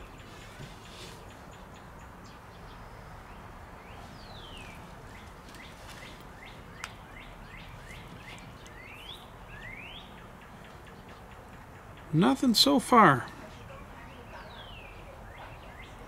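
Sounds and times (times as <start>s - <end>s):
outdoor background noise: 0.0s - 16.0s
songbird singing: 0.0s - 16.0s.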